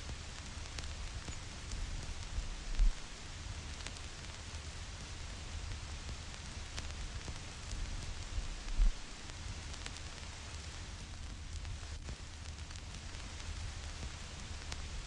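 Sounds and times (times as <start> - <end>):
vinyl record crackle: 0.0 - 15.0.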